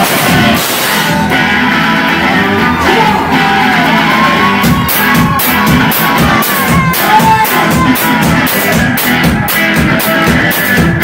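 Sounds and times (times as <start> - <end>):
drums: 0.0 - 11.0
electric guitar bent notes: 0.0 - 11.0.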